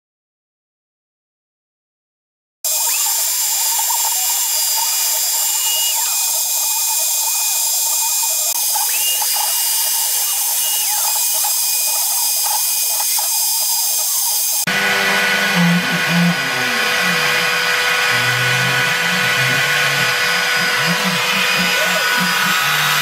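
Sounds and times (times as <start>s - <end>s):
high machine whine: 2.7s - 23.0s
router bit cutting wood: 2.7s - 23.0s.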